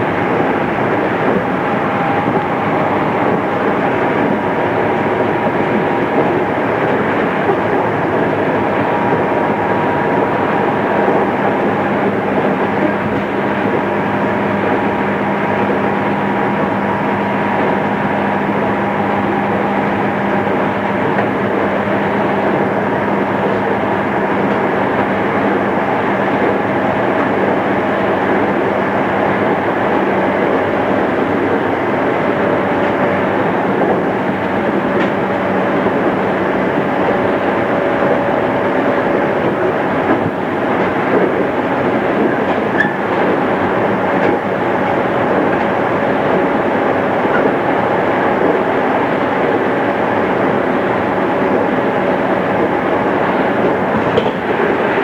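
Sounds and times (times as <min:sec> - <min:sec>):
train wheel and motor noise: 0:00.0 - 0:55.0.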